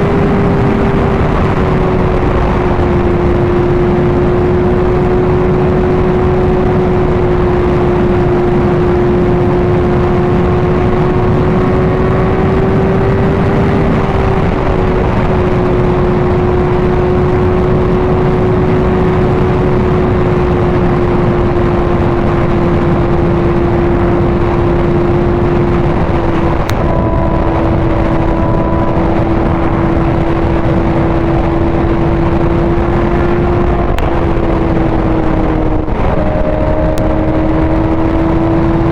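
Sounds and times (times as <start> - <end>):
motorcycle engine drone: 0.0 - 38.9
wind rush on microphone: 0.0 - 38.9.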